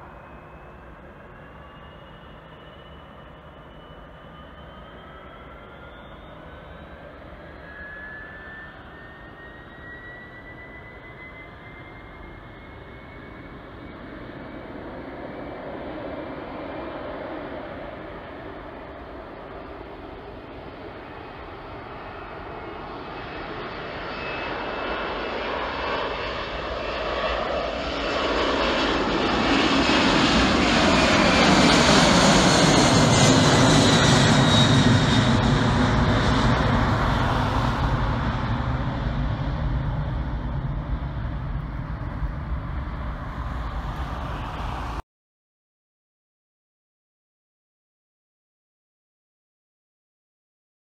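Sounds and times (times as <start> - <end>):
high jet whine: 0.0 - 45.0
jet engines roaring overhead: 0.0 - 45.0.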